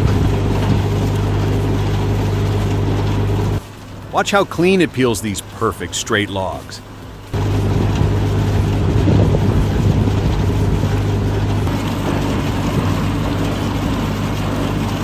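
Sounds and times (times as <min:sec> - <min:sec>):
debarking machine running: 0:00.0 - 0:15.0.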